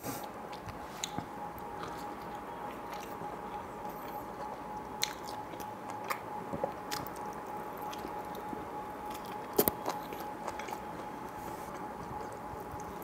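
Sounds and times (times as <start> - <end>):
steady hum: 0.0 - 13.0
wet chewing and biting: 0.5 - 13.0.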